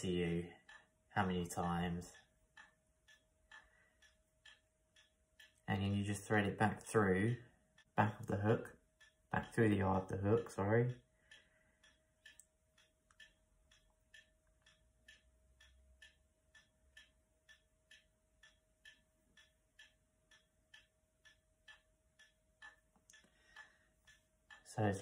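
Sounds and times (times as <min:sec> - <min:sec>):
faint regular ticking: 0:00.0 - 0:25.0
faint steady hum: 0:00.0 - 0:25.0.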